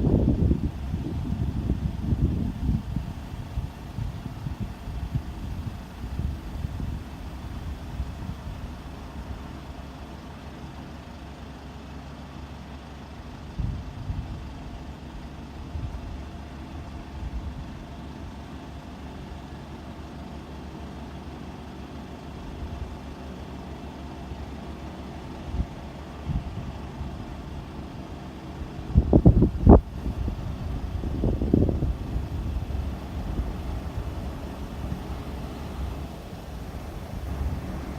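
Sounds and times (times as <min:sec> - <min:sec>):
combine harvester engine hum: 0:00.0 - 0:37.9.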